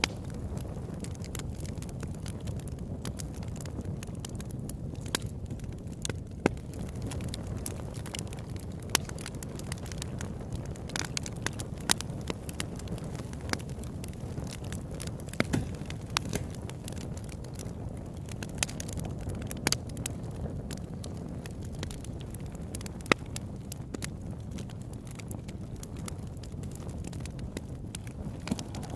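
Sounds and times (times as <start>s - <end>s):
campfire flame rumbling: 0.0s - 28.9s
wood crackling and popping: 0.0s - 28.9s.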